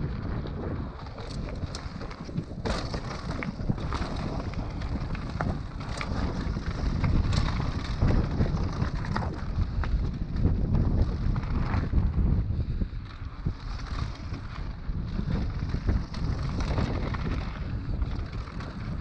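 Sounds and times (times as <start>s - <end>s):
bike rattling over rough ground: 0.0s - 19.0s
wind buffeting microphone: 0.0s - 19.0s.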